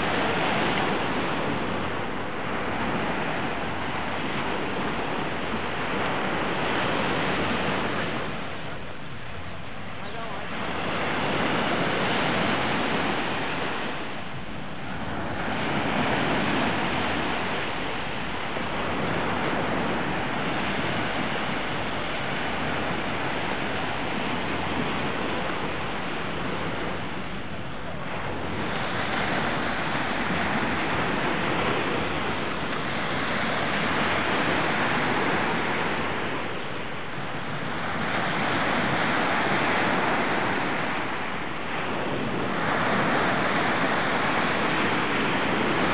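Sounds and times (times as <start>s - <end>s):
waves breaking on sandy beach: 0.0s - 45.9s.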